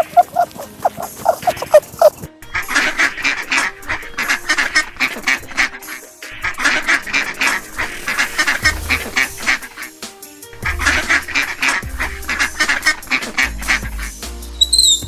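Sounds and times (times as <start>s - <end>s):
ducks quacking: 0.0s - 9.9s, 10.6s - 14.1s.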